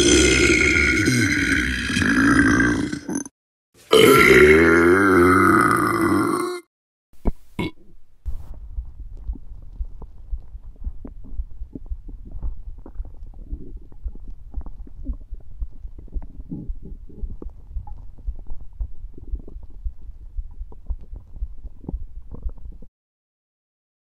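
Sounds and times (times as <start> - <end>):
stomach growling and gurgling: 0.0 - 3.3, 3.9 - 22.9.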